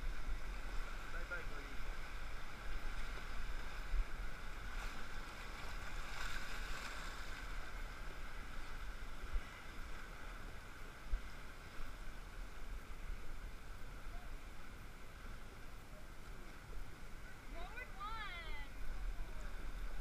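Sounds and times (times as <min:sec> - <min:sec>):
rushing whitewater: 0:00.0 - 0:20.0.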